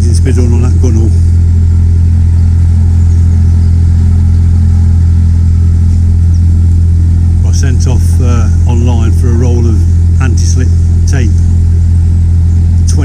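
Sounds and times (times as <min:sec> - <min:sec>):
boat engine low hum: 0:00.0 - 0:13.0.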